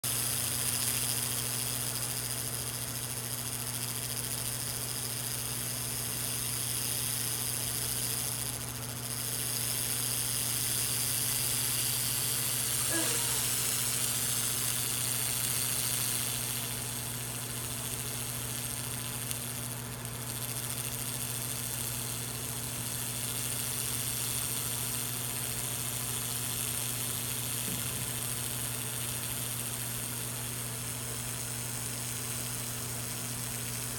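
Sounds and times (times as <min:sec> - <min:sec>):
laser cleaner hissing buzz: 0:00.1 - 0:33.9
low machine hum: 0:00.1 - 0:33.9.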